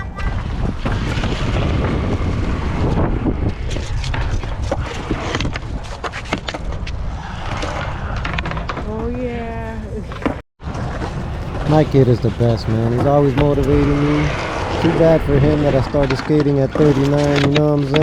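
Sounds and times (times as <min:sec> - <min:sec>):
skateboard wheels rolling on concrete: 0:00.0 - 0:18.0
wind rumbling on microphone: 0:00.0 - 0:18.0.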